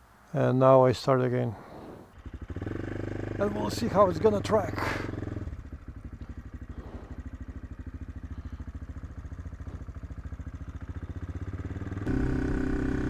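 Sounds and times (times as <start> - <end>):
motorcycle engine idling: 2.1 - 13.0.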